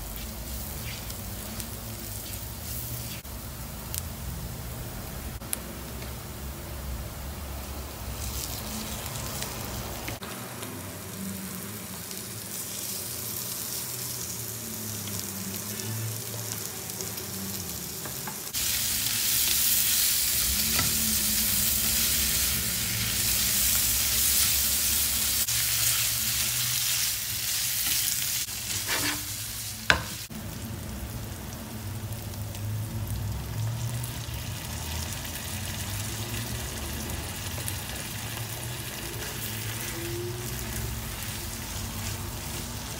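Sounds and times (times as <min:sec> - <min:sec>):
meat sizzling in a pan: 0:00.0 - 0:04.3, 0:07.2 - 0:42.9.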